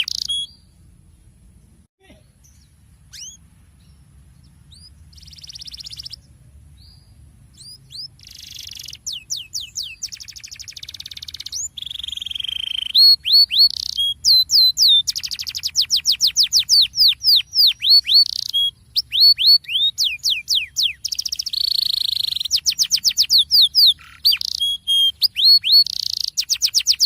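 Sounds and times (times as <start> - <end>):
canary singing: 0.0 - 0.7, 2.4 - 27.0.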